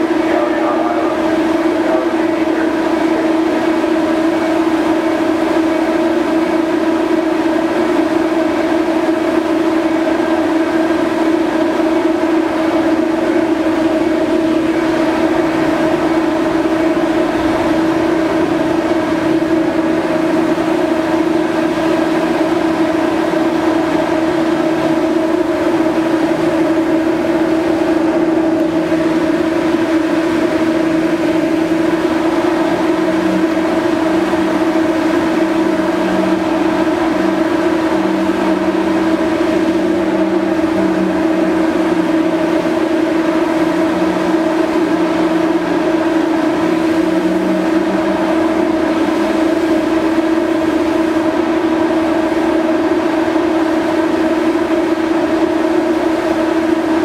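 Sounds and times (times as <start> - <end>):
lower hum: 0.0 - 57.0
ship machinery droning: 0.0 - 57.0.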